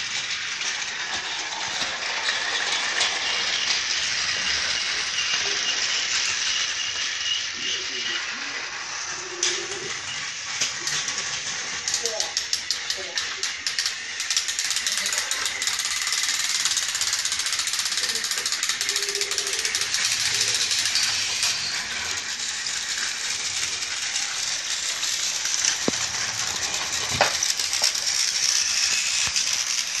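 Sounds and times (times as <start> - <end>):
toy train motor rattling: 0.0 - 30.0.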